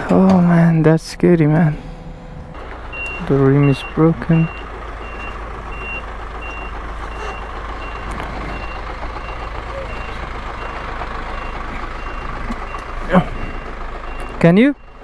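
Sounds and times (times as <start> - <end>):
truck engine rumble: 0.0 - 15.0
reversing alarm beeping: 2.9 - 15.0.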